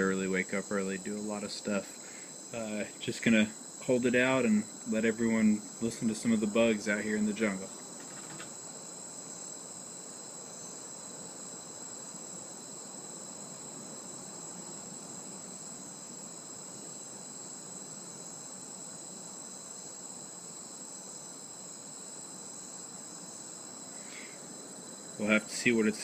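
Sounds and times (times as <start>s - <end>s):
insects trilling: 0.0s - 26.0s
low background hiss: 0.0s - 26.0s.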